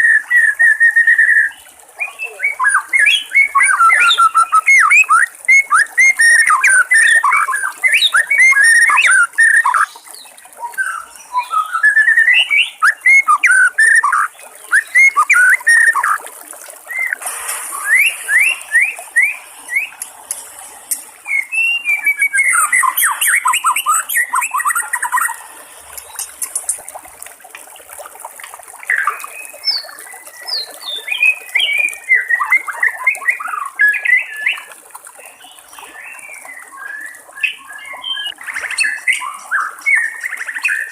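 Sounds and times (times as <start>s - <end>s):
bird singing whistled phrases: 0.0s - 16.2s, 16.9s - 20.0s, 21.3s - 25.5s, 28.9s - 34.7s, 35.9s - 40.9s.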